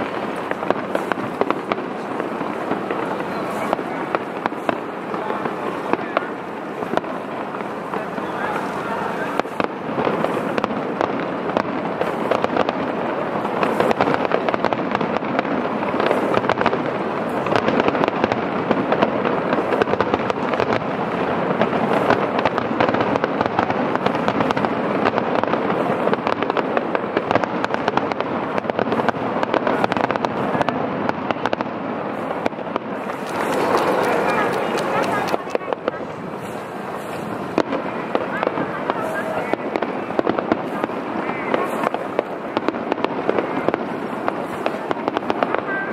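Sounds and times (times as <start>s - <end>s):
firework shells bursting: 0.0s - 45.9s.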